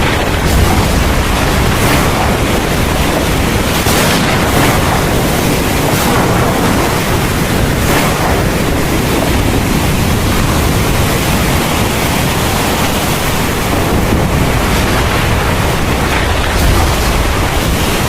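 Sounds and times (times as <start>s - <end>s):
deep low rumble: 0.0s - 12.0s, 13.6s - 18.0s
heavy rain falling: 0.0s - 18.0s.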